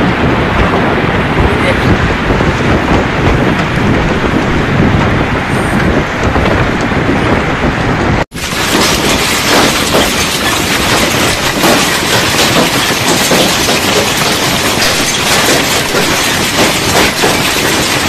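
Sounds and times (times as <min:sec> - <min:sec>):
heavy rain: 0:00.0 - 0:18.0
storm wind: 0:00.0 - 0:18.0
wind buffeting microphone: 0:00.0 - 0:18.0.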